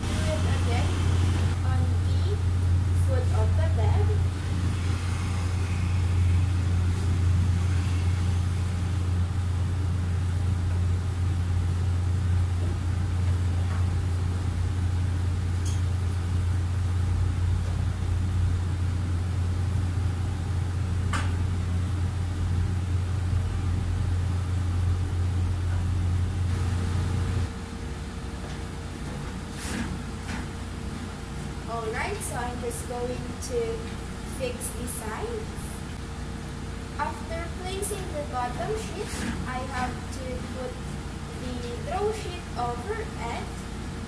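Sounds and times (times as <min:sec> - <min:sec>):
low mechanical hum: 0:00.0 - 0:44.0.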